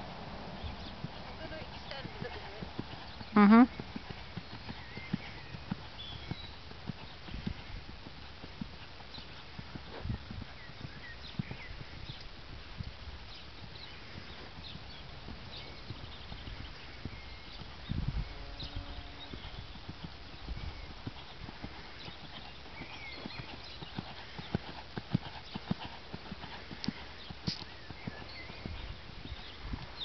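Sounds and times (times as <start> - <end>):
horse hoofbeats on soft ground: 0.0 - 30.0.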